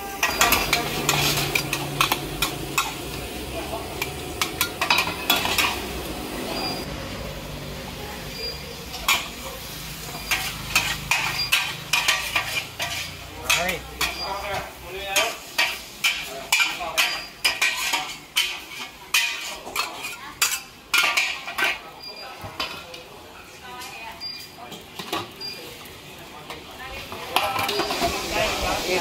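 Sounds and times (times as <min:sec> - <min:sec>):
metal utensils clanking on a wok: 0:00.0 - 0:06.9, 0:08.3 - 0:23.1, 0:23.7 - 0:29.0
noodles sizzling in a wok: 0:00.0 - 0:29.0.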